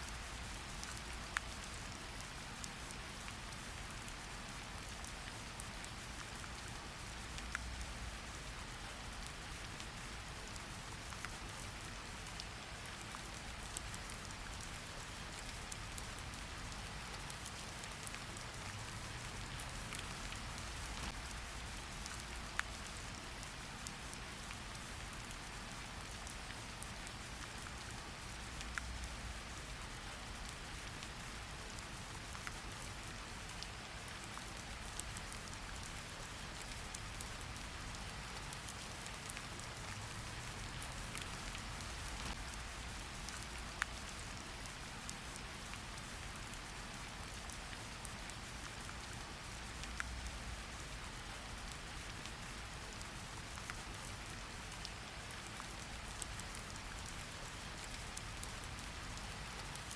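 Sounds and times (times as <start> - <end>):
steady rain hiss: 0.0 - 59.9
raindrop ticks: 0.1 - 59.9.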